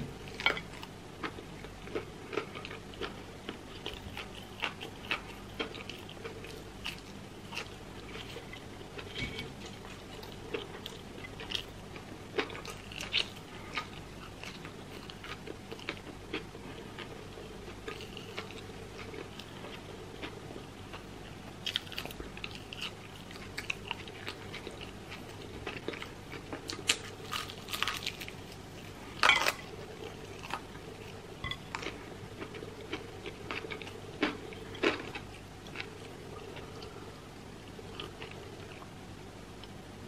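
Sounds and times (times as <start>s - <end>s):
chewing crispy chicken: 0.2s - 38.9s.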